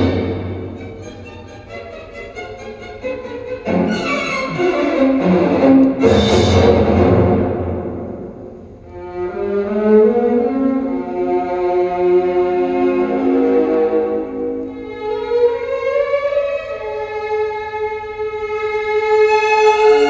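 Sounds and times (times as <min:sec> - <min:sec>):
heavy orchestral stroke: 0:00.0 - 0:17.1
orchestral music with strings: 0:00.0 - 0:20.0.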